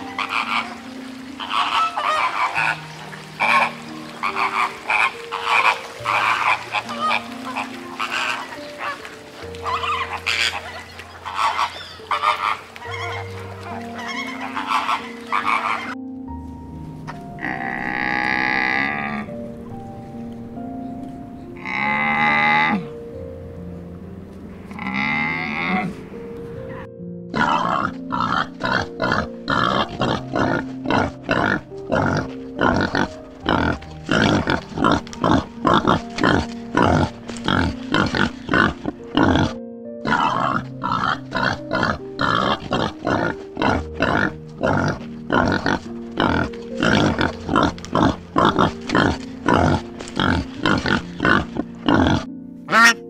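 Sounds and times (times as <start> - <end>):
background music with held notes: 0.0 - 53.0.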